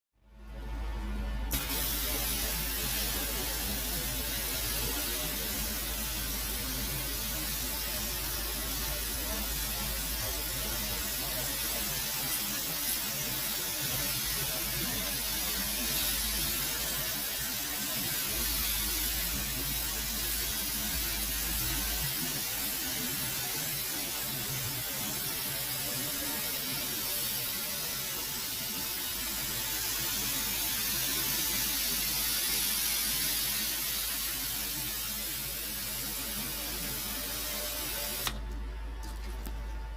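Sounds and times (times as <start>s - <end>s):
pressure washer spraying: 1.5s - 38.4s.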